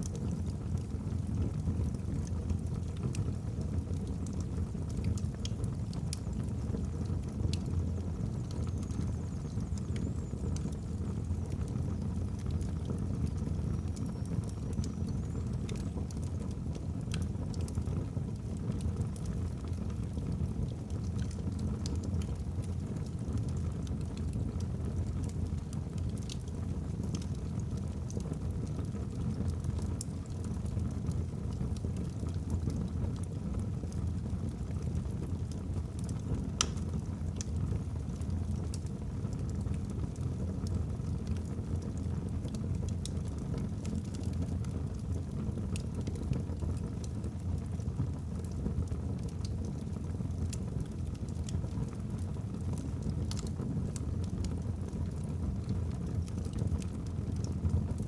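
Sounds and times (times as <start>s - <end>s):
logs crackling and popping: 0.0s - 58.0s.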